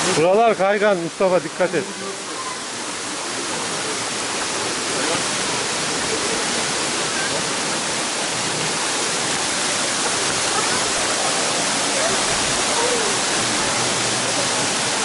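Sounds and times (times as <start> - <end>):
waterfall rushing onto rock: 0.0 - 15.0.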